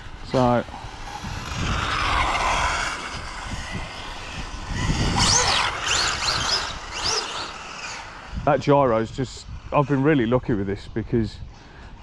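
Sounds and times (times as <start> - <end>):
electric motor whining: 0.0 - 10.4.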